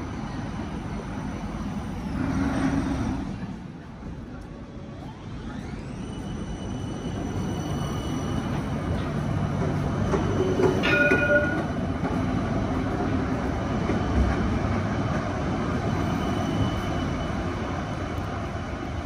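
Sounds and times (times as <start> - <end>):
tram rumbling past on rails: 0.0 - 19.0.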